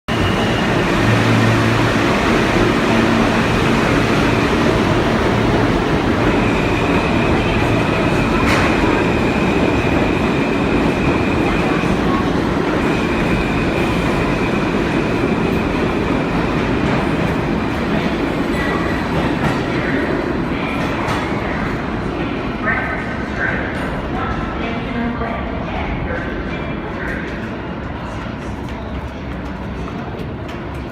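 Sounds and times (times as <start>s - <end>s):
subway train rumbling on rails: 0.0s - 30.9s.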